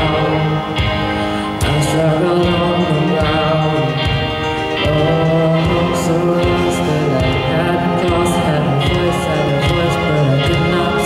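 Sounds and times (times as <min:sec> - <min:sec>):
boy singing into a microphone: 0:00.0 - 0:11.0
electronic keyboards playing chords: 0:00.0 - 0:11.0.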